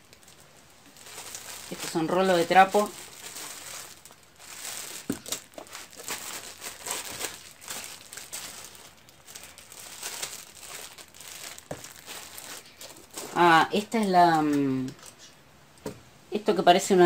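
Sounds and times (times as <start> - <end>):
plastic wrapping crinkling: 0.0 - 15.3.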